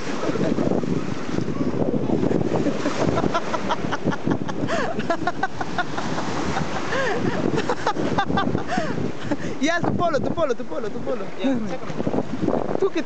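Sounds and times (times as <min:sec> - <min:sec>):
surf breaking in shallows: 0:00.0 - 0:12.9
wind rumbling on microphone: 0:00.0 - 0:13.0.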